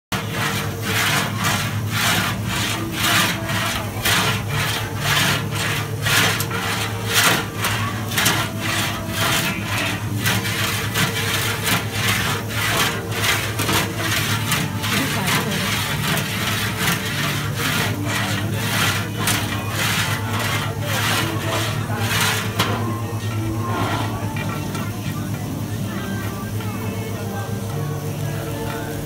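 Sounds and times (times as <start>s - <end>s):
iron pan scraping on stove: 0.1s - 29.0s
steady low hum: 0.1s - 29.0s.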